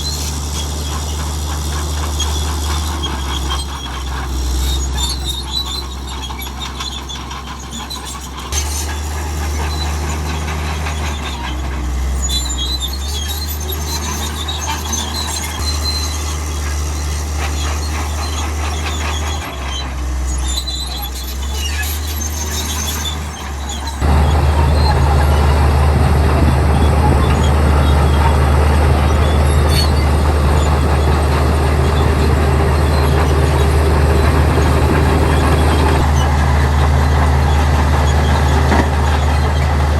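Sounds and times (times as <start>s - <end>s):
bulldozer diesel drone: 0.0s - 39.9s
steel tracks squeaking and clinking: 0.0s - 39.9s.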